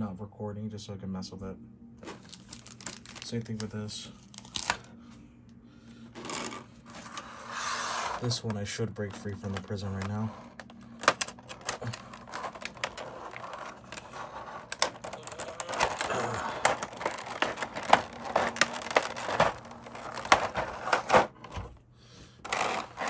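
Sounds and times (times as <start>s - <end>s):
plastic blister tray crackling: 2.0s - 4.9s, 6.1s - 21.8s, 22.4s - 23.0s.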